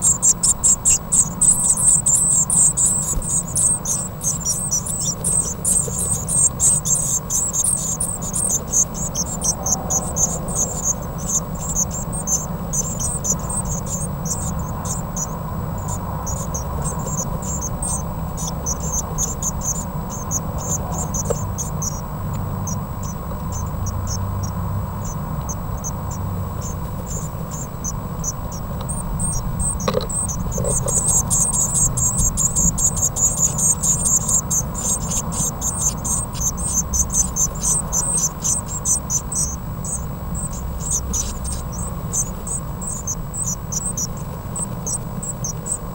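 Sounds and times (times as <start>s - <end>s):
nestlings squeaking calls: 0.0s - 45.9s
steady low hum: 0.0s - 45.9s.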